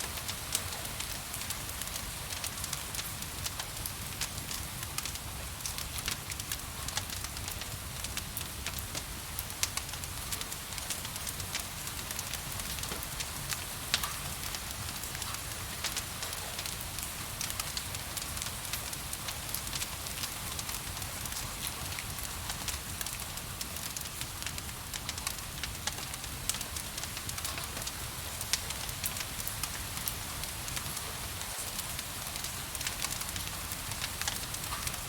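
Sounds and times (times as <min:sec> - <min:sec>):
wood fire crackling and popping: 0:00.1 - 0:35.0.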